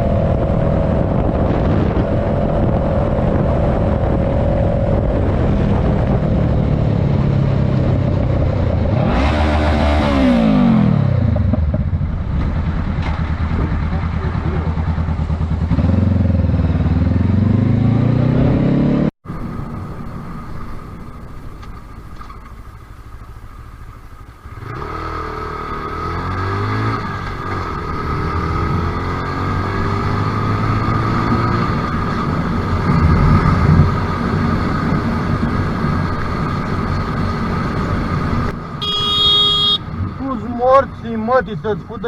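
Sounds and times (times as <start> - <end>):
motorcycle engine accelerating: 0.0 - 40.8.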